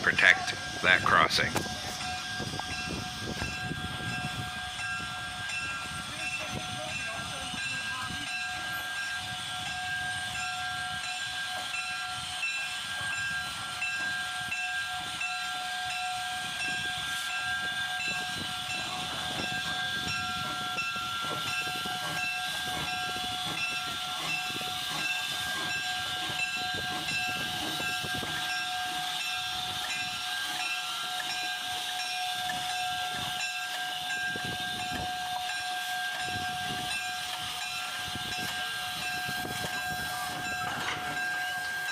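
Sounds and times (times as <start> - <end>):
constant whistle-like tones: 0.0 - 41.9
steam locomotive hissing: 0.0 - 41.9.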